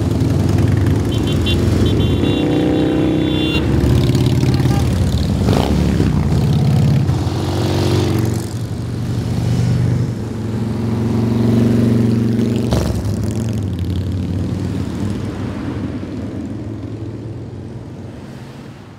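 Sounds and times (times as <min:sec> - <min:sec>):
motorcycles riding past: 0:00.0 - 0:18.6.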